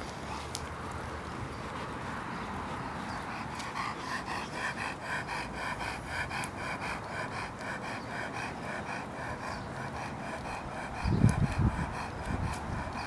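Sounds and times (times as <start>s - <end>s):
puppy panting: 0.0s - 13.0s.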